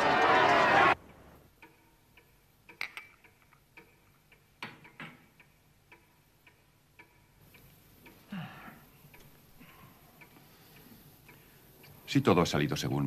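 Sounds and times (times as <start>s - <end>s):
clock ticking: 0.9s - 13.0s.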